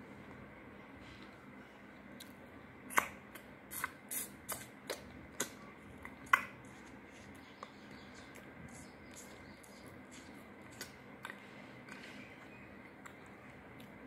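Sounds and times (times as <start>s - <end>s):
baby munching crunchy fruit: 2.1s - 14.0s.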